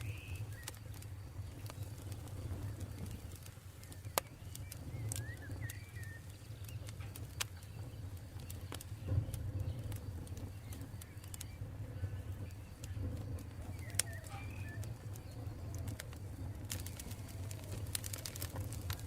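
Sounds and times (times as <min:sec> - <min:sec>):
bird chirping: 0:00.0 - 0:15.9
campfire crackling and popping: 0:00.0 - 0:19.0
flames rumbling: 0:00.0 - 0:19.0.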